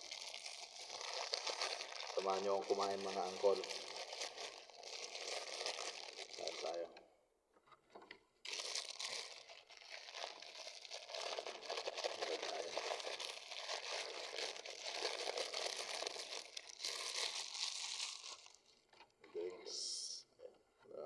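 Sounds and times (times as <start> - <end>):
packaging tearing: 0.0 - 6.8, 8.4 - 18.8
food packaging crinkling: 0.0 - 6.9, 8.4 - 19.1.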